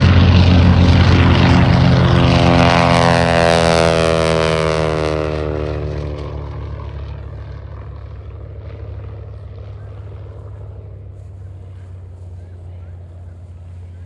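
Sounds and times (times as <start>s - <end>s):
propeller plane flying by: 0.0s - 14.0s.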